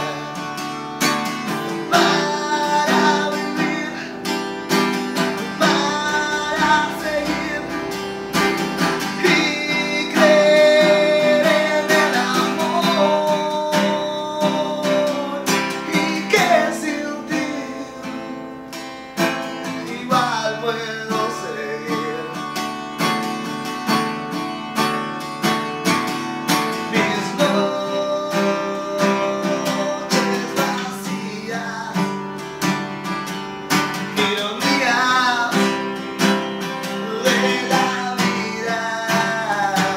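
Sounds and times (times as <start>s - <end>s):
man singing: 0.0s - 18.6s, 19.2s - 22.8s, 26.5s - 32.9s, 33.8s - 39.9s
acoustic guitar strumming: 0.0s - 39.9s.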